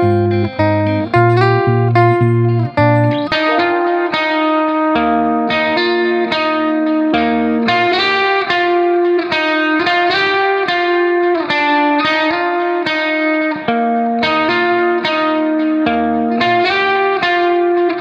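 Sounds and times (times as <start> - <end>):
guitar picking notes: 0.0 - 18.0.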